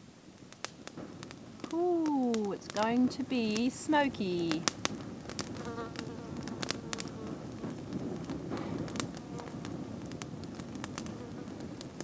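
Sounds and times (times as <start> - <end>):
campfire crackling and popping: 0.0 - 12.0
rush of flame: 0.0 - 12.0.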